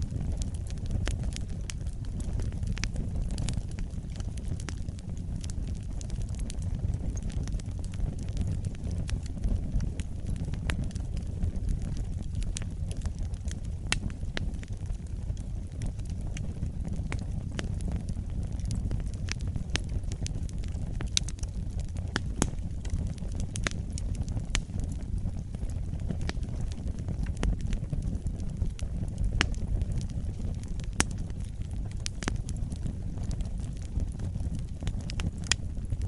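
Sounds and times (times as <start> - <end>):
fire crackling and popping: 0.0 - 36.0
fire low rumble: 0.0 - 36.0.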